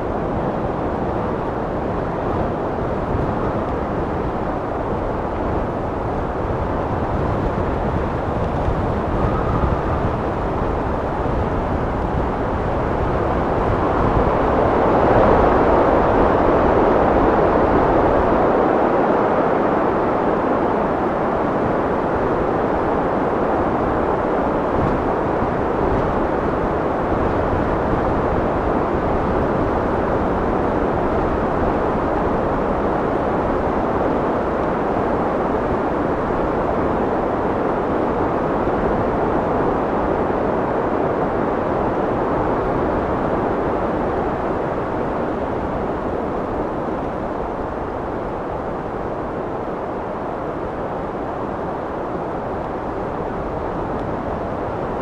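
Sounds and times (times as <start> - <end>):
steady rushing wind: 0.0 - 55.0.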